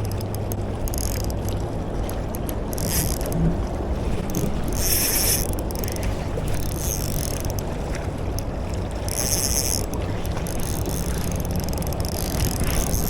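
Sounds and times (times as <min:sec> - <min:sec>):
fishing reel gears whirring: 0:00.0 - 0:03.4, 0:04.1 - 0:13.0
wind and water rushing: 0:00.0 - 0:13.0.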